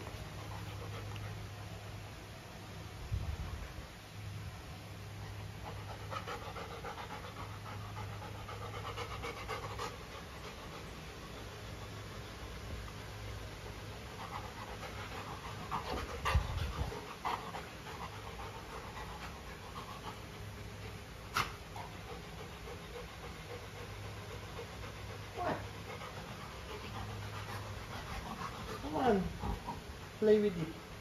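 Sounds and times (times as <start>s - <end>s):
dog panting: 0.0s - 1.7s, 5.2s - 31.0s.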